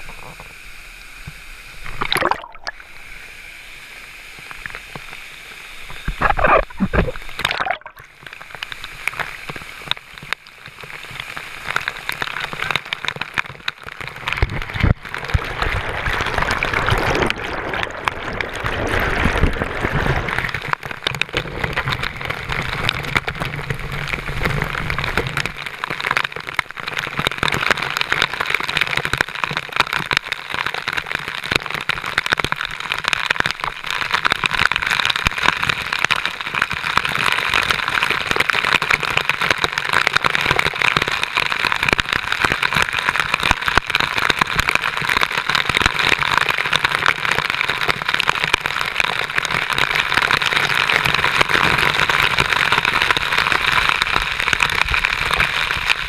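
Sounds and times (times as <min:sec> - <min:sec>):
waterfall pouring and splashing: 0:00.0 - 0:56.0.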